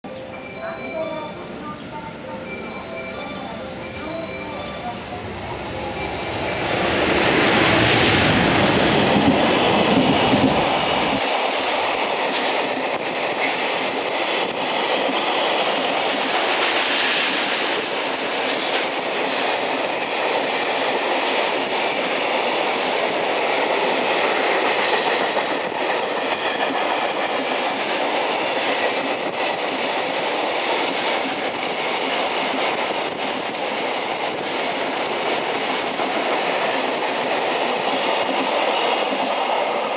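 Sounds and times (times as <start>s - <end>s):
electric locomotive passing: 0.1s - 39.9s
train wagons rolling past: 0.7s - 39.9s.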